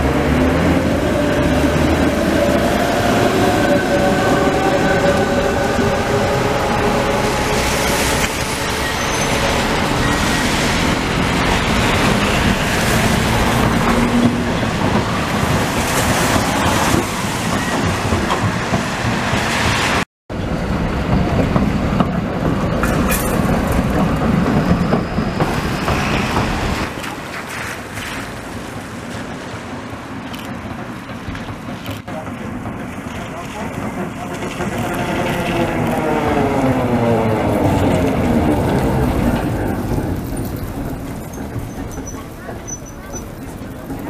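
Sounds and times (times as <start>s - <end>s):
traffic hiss on wet road: 0.0s - 20.0s, 25.4s - 44.0s
tram wheels rumbling on rails: 0.0s - 44.0s.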